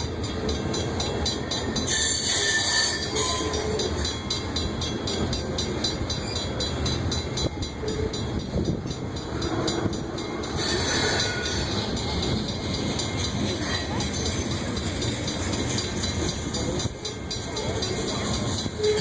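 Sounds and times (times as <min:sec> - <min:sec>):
train cars rumbling past: 0:00.0 - 0:19.0.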